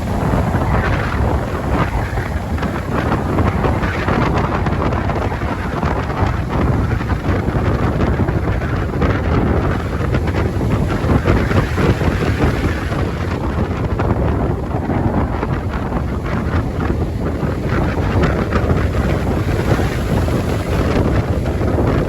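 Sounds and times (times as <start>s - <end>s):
ocean surf: 0.0s - 22.0s
wind buffeting microphone: 0.0s - 22.0s.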